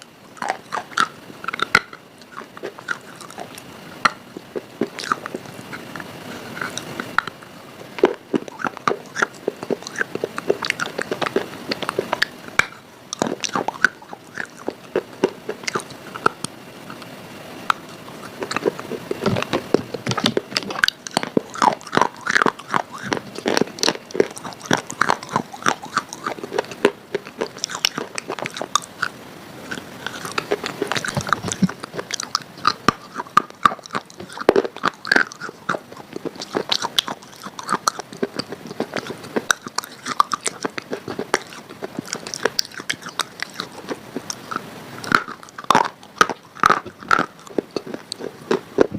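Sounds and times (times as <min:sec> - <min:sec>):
chewing crunchy food: 0:00.0 - 0:48.9.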